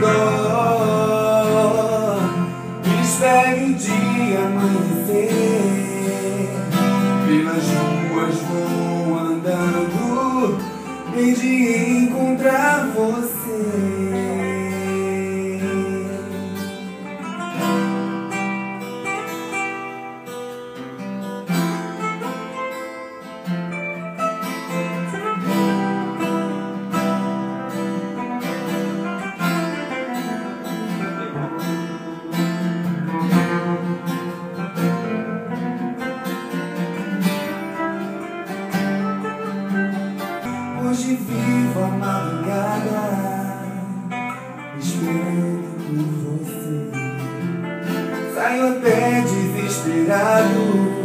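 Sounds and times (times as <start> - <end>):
acoustic guitar playing: 0.0 - 51.0.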